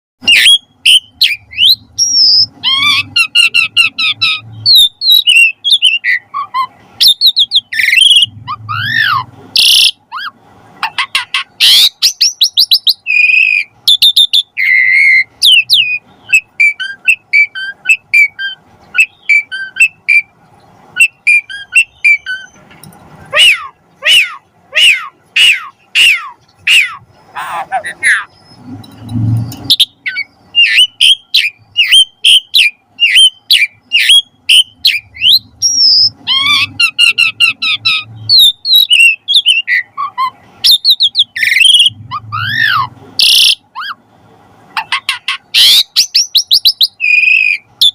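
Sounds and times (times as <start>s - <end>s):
starling singing: 0.2s - 44.1s, 44.7s - 47.9s.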